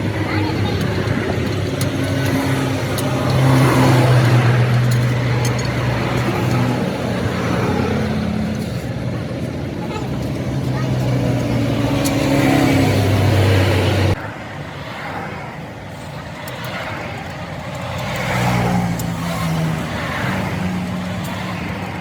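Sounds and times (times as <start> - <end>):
vehicle engine revving: 0.0 - 14.2, 16.6 - 22.0.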